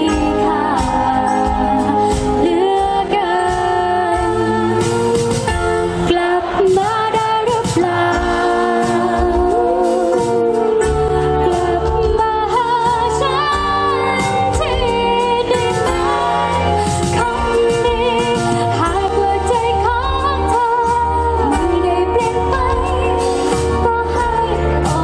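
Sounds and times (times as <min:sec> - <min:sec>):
pop band playing: 0:00.0 - 0:25.0
woman singing: 0:00.0 - 0:25.0.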